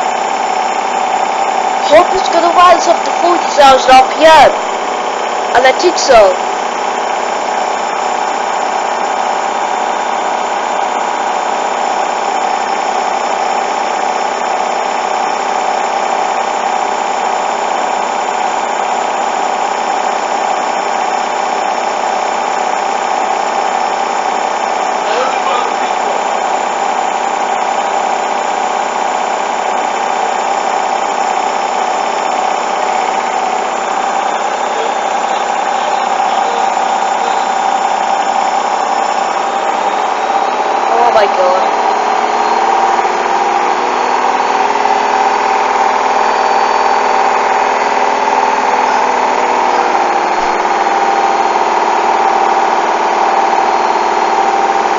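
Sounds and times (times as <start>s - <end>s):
washing machine drum spinning: 0.0s - 54.9s.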